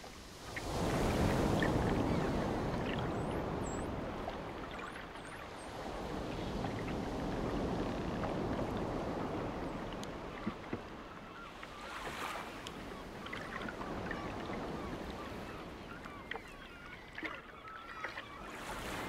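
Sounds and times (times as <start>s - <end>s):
water splashing in boat wake: 0.0s - 19.0s.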